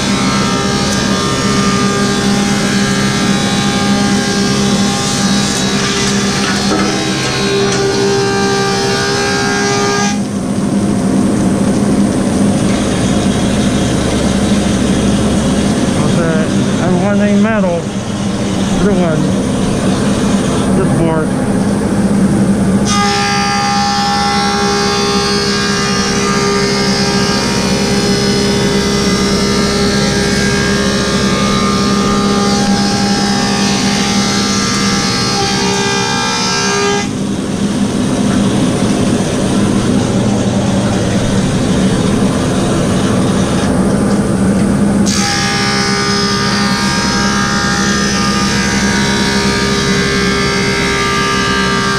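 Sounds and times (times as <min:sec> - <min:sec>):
planer cutting ringing tone: 0:00.0 - 0:51.9
planer running hum: 0:00.0 - 0:51.9.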